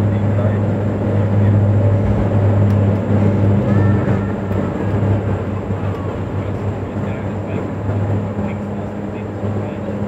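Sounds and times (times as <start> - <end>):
engine and airflow noise: 0.0 - 10.0
propeller drone: 0.0 - 10.0.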